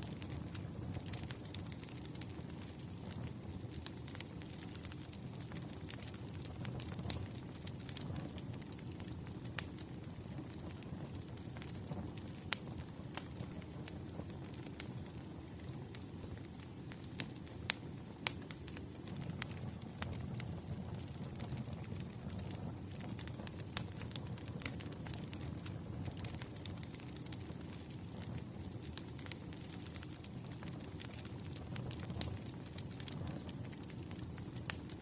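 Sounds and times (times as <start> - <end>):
firewood crackling and popping: 0.0 - 35.0.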